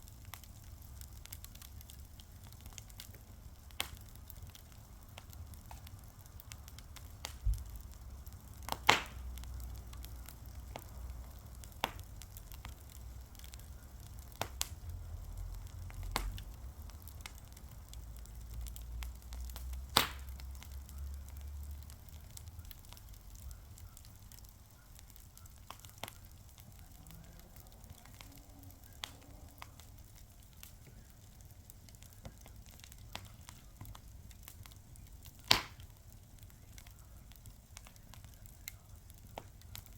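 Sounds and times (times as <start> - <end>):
faint hiss: 0.0 - 39.9
fire crackling and popping: 0.0 - 39.9.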